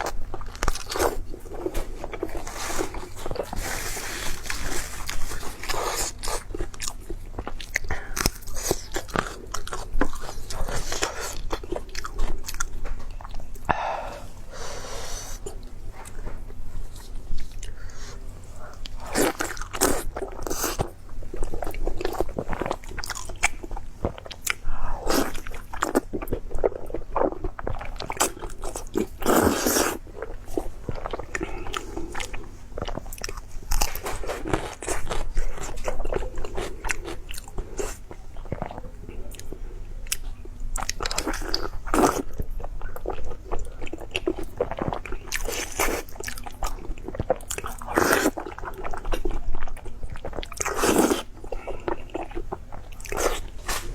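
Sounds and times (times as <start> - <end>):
person eating crunchy food: 0.0 - 53.9.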